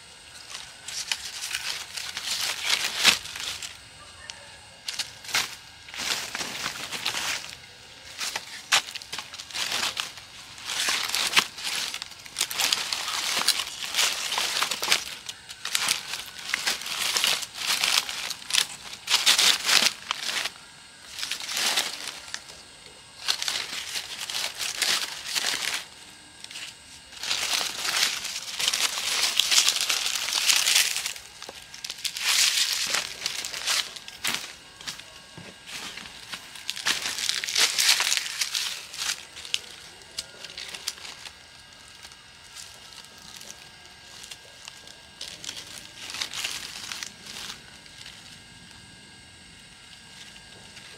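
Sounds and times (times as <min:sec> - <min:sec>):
dry leaves crackling and rustling: 0:00.0 - 0:50.9.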